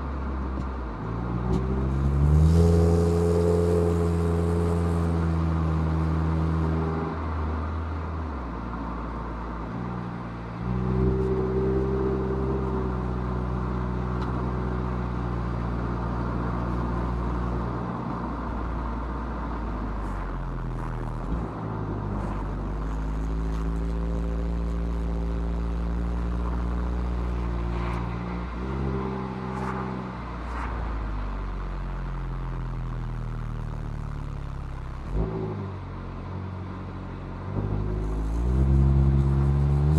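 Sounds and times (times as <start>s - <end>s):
tyre and road noise: 0.0s - 39.9s
car engine revving: 1.4s - 7.4s, 10.4s - 36.4s, 37.4s - 39.9s.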